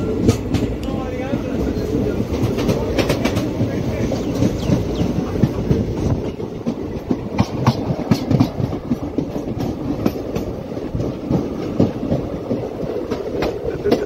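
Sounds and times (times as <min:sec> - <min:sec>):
low train rumble: 0:00.0 - 0:14.0
train wheels clattering on rails: 0:00.0 - 0:14.0.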